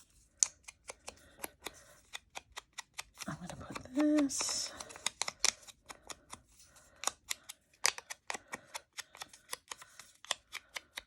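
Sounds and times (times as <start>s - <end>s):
small clicks and taps: 0.3s - 6.4s, 7.0s - 11.0s.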